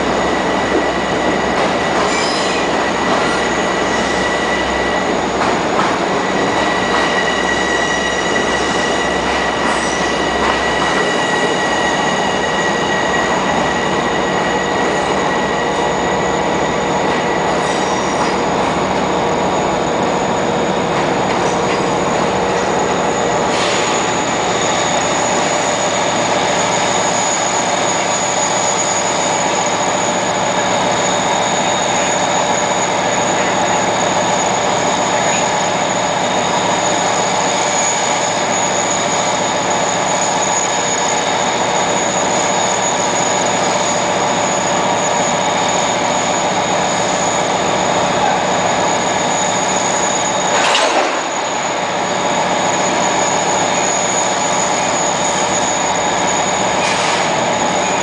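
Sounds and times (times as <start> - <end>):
train rumble: 0.0 - 58.0
wheel squeal: 0.2 - 5.3, 6.0 - 18.7, 19.5 - 58.0.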